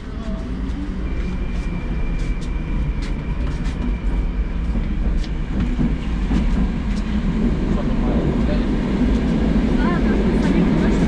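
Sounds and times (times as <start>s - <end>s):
rumble of train wheels on rails: 0.0s - 11.0s.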